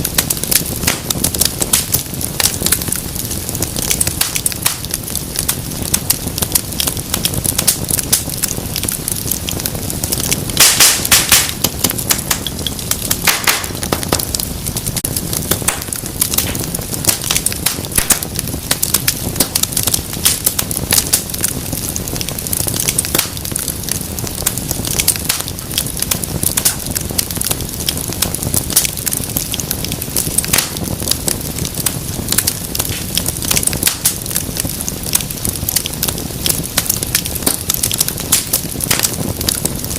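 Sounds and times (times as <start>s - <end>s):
low roar of flame: 0.0s - 39.9s
wood fire crackling and popping: 0.0s - 39.9s.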